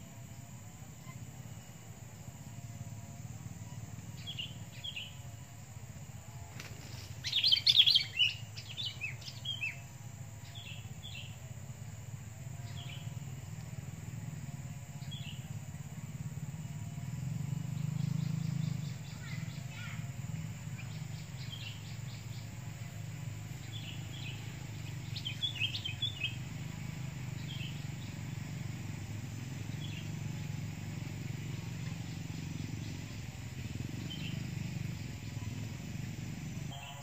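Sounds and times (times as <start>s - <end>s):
birds chirping: 0.9s - 5.7s, 6.3s - 11.5s, 12.5s - 37.0s.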